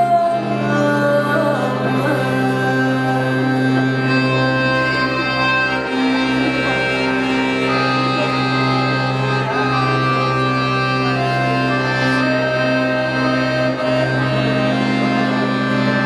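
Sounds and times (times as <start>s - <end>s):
accordion playing chords: 0.0s - 16.0s.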